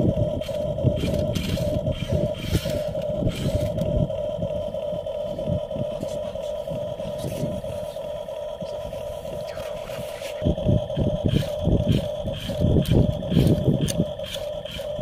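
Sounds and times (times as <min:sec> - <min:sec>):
electric motors and gears whining: 0:00.0 - 0:15.0
low uneven rumble: 0:00.0 - 0:15.0.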